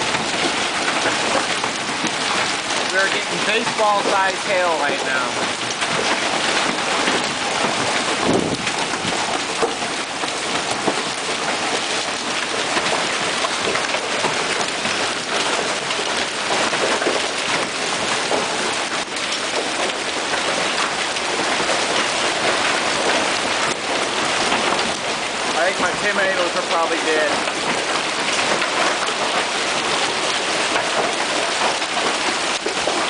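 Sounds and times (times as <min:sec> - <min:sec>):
hail pelting down: 0:00.0 - 0:33.0
heavy rain: 0:00.0 - 0:33.0.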